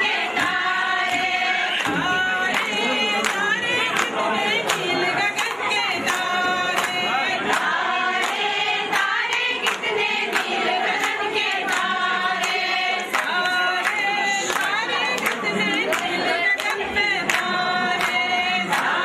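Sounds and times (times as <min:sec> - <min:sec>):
women singing in chorus: 0:00.0 - 0:19.0.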